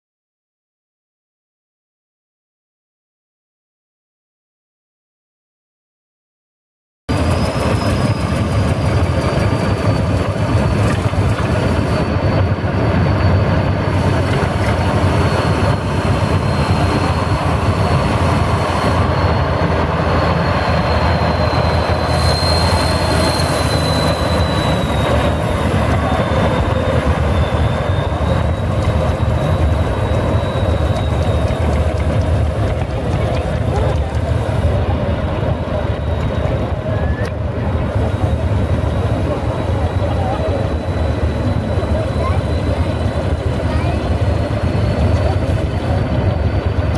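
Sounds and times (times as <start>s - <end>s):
high whine: 7.1s - 46.9s
tractor diesel engine rumbling: 8.8s - 46.9s.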